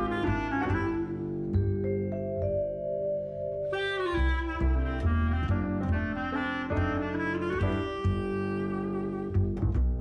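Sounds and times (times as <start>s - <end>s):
instrumental music held notes: 0.0s - 10.0s.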